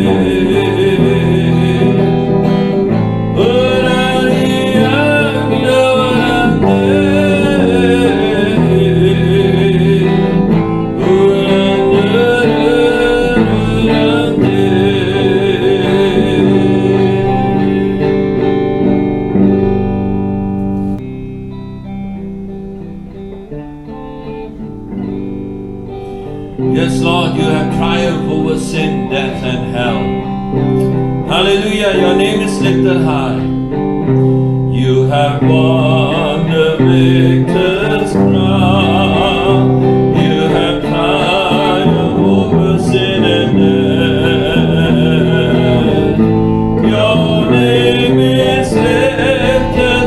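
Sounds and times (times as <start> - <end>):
acoustic guitar: 0.0 - 50.0
worship band music: 0.0 - 50.0.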